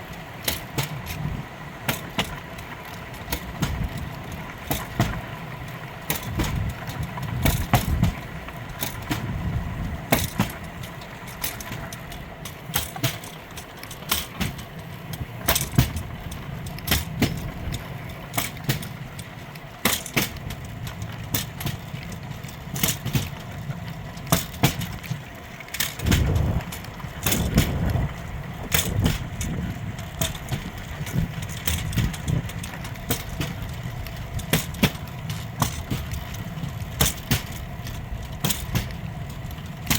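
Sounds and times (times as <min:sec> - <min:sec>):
steel wheels rumbling on rails: 0:00.0 - 0:39.9
wheels clacking over rail joints: 0:00.0 - 0:39.9.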